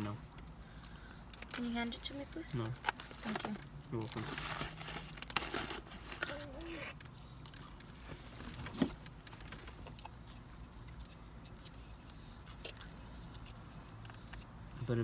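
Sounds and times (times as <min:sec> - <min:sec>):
low steady car cabin hum: 0:00.0 - 0:15.0.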